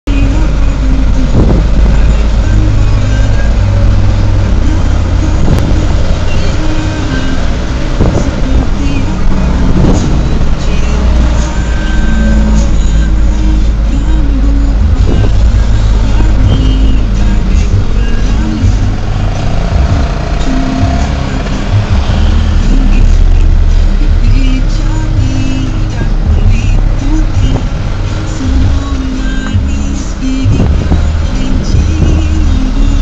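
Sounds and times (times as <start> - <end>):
road noise: 0.0 - 33.0
truck diesel engine running: 0.0 - 33.0.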